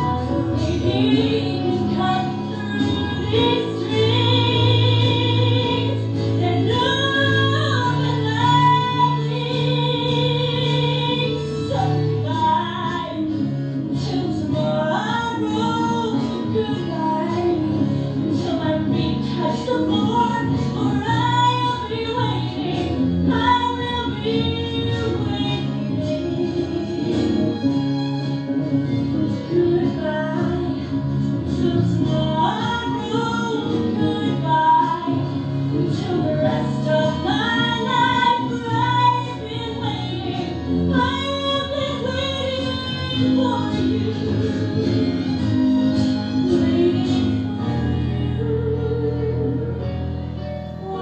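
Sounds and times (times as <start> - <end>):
woman singing with vibrato: 0.0 - 27.6, 28.7 - 51.0
piano: 0.0 - 51.0.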